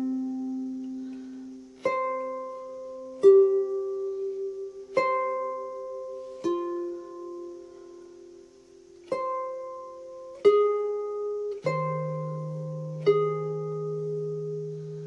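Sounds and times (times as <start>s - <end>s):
harp notes plucked slowly: 0.0s - 15.0s.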